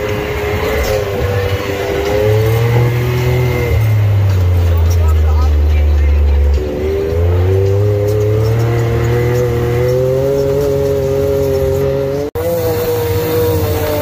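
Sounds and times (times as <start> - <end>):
turbo engine running: 0.0 - 14.0.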